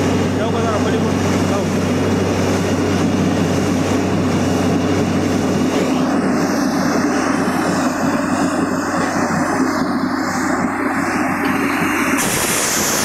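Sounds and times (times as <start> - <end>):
drilling rig loud drone: 0.0 - 13.0.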